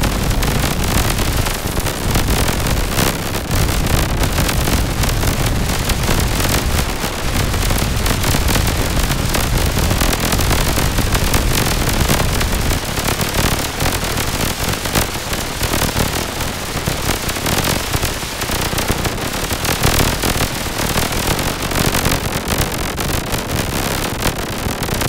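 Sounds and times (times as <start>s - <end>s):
crackling synthesizer noise: 0.0s - 25.0s.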